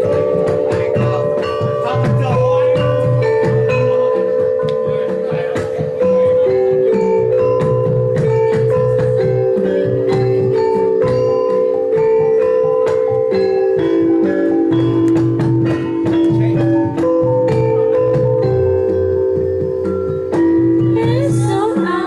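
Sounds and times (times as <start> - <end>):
gamelan ensemble playing: 0.0 - 22.0.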